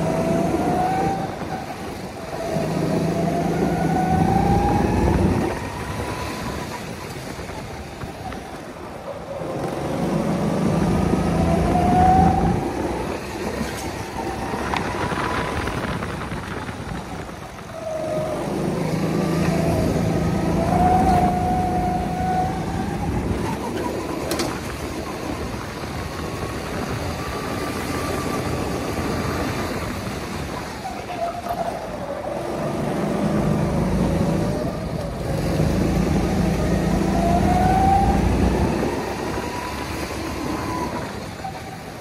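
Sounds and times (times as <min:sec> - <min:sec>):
go-kart engine revving: 0:00.0 - 0:07.8, 0:08.8 - 0:42.0.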